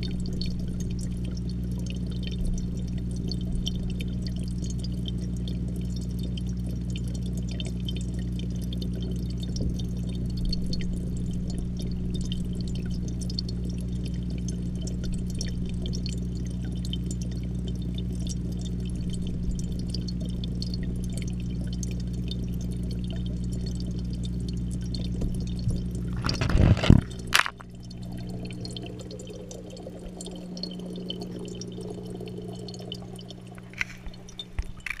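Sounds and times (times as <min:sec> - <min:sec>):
aquarium pump humming: 0:00.0 - 0:35.0
water bubbling and trickling: 0:00.0 - 0:35.0.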